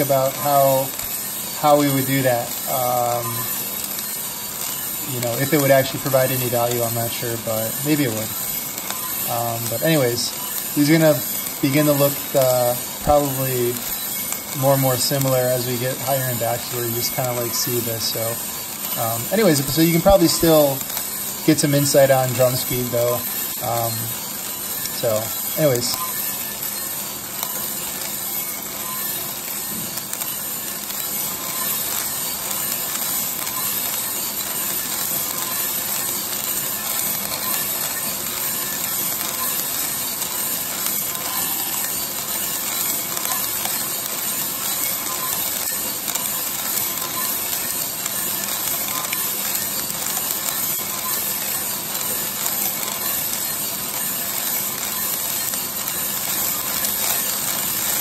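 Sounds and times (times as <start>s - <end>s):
coffee beans rattling in roaster drum: 0.0s - 58.0s.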